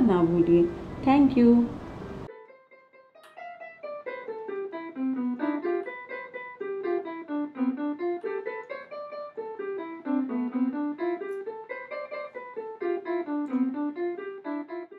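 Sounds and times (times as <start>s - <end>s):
quick picked melody: 0.0s - 14.9s.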